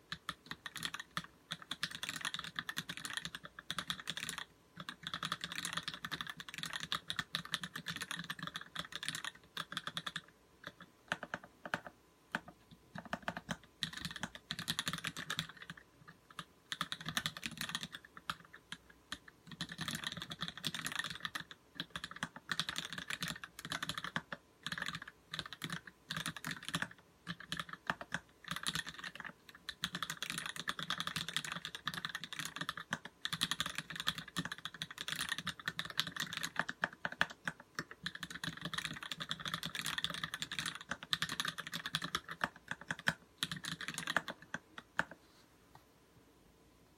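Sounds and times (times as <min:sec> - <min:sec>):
mechanical keyboard typing: 0:00.0 - 0:45.2.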